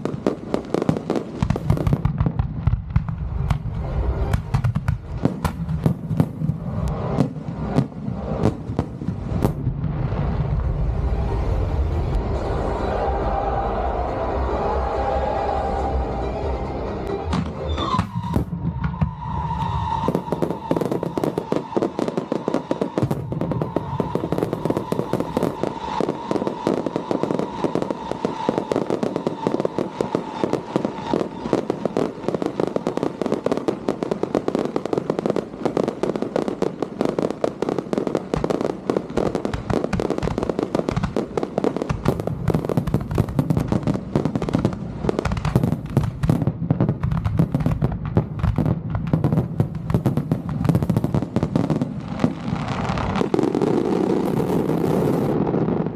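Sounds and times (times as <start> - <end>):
heavy firework booms: 0.0 - 11.2, 17.4 - 55.9
fireworks crackling and popping: 0.0 - 12.5, 17.0 - 55.9.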